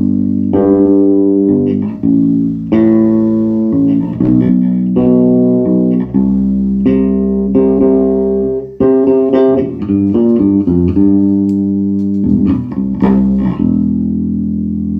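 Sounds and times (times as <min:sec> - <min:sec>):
electric bass guitar plucked notes: 0:00.0 - 0:14.9.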